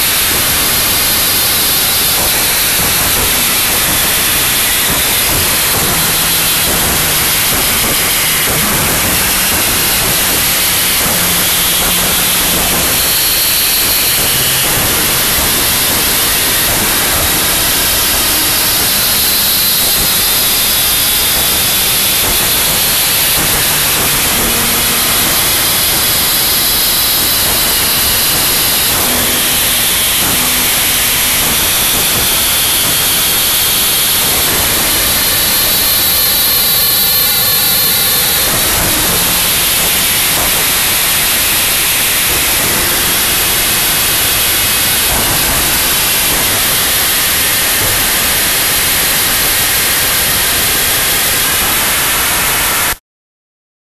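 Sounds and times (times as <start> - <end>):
dense wall of static: 0.0 - 53.0.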